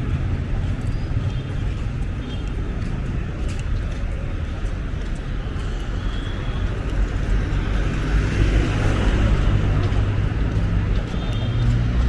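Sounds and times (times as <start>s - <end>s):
moving vehicle low rumble: 0.0s - 12.0s.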